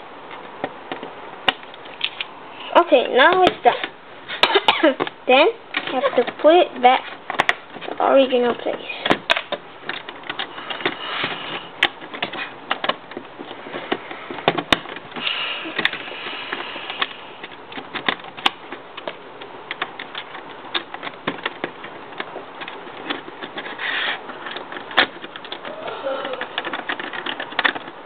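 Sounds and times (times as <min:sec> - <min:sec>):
plastic pieces clicking: 0:03.2 - 0:28.0.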